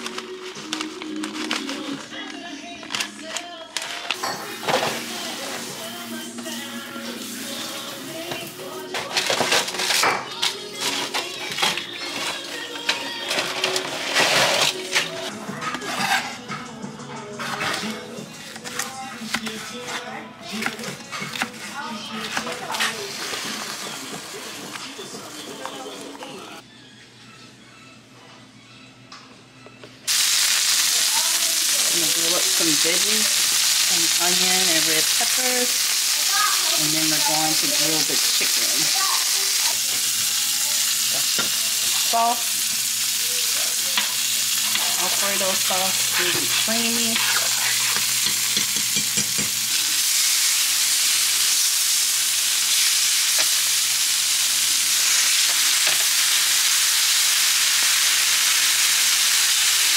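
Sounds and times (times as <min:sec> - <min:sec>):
food sizzling in a pan: 0:03.8 - 0:16.3, 0:17.4 - 0:26.6, 0:30.1 - 0:59.9.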